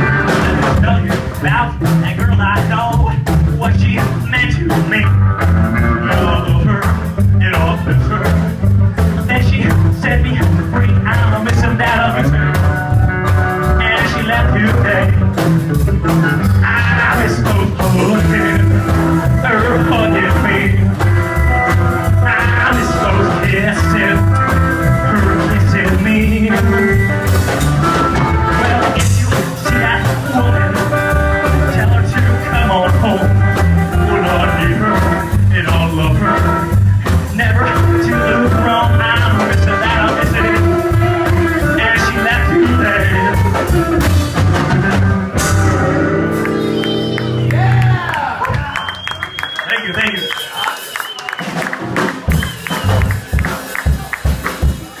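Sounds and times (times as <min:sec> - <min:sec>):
acoustic guitar: 0:00.0 - 0:47.7
upright double bass: 0:00.0 - 0:49.6, 0:51.3 - 0:55.0
drum kit: 0:00.0 - 0:55.0.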